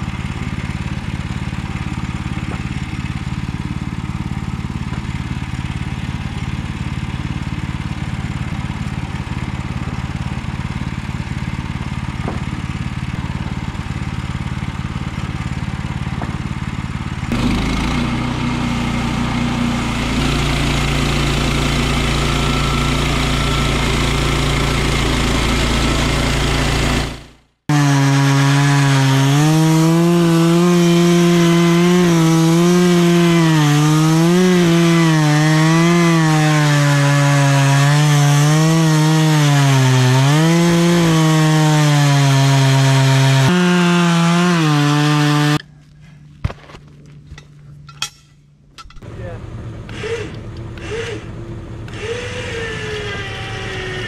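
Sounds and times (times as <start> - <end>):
chainsaw cutting log: 0.0 - 45.7, 49.9 - 54.0
small gas engine running: 0.0 - 45.8, 49.0 - 54.0.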